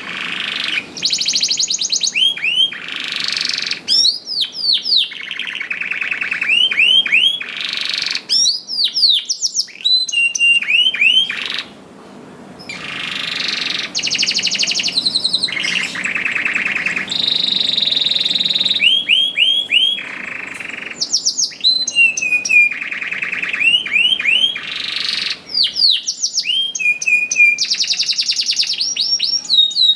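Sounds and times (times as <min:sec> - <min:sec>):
canary singing trills: 0:00.0 - 0:11.8, 0:12.6 - 0:29.9.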